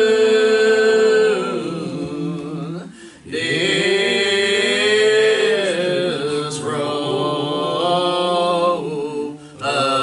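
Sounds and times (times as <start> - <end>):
congregation singing a hymn: 0.0 - 10.0.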